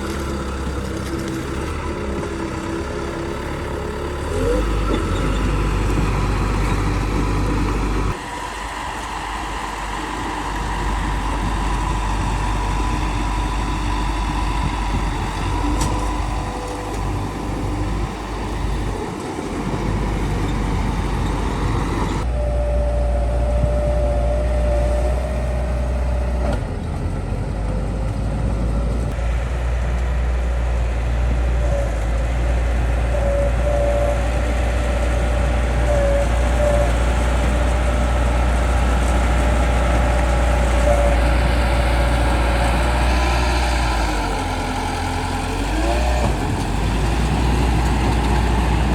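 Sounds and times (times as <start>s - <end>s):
bulldozer engine under load: 0.0s - 48.9s.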